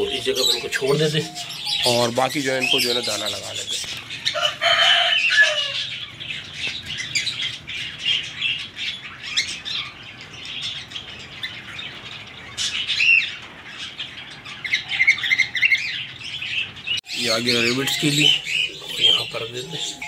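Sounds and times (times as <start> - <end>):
parrots chirping and squawking: 0.0 - 20.0.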